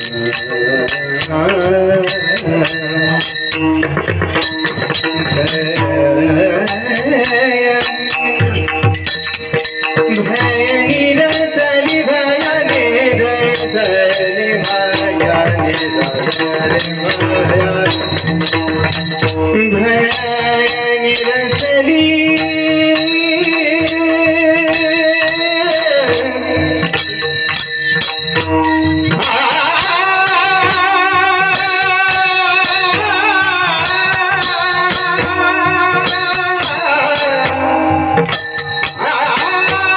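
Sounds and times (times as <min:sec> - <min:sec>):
metallic hand percussion: 0:00.0 - 0:39.9
mridang drum: 0:00.0 - 0:39.9
voices singing devotional tune: 0:04.4 - 0:28.3, 0:29.0 - 0:39.9.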